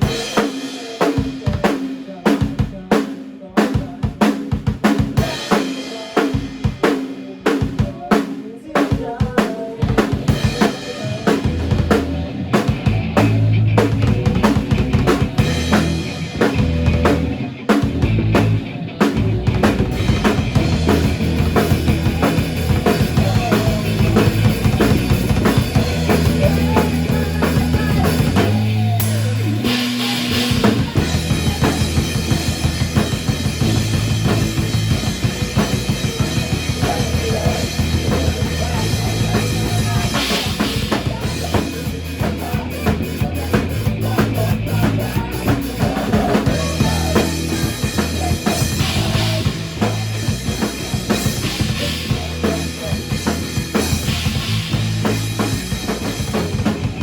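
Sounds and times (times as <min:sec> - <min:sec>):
drum kit playing busy beat: 0:00.0 - 0:57.0
deep bass notes: 0:11.4 - 0:57.0.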